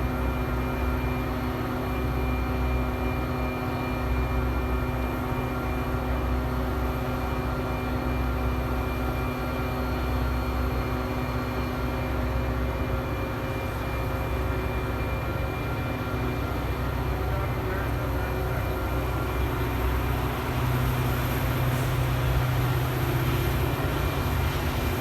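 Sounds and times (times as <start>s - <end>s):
engine drone with deep rumble: 0.0s - 25.0s.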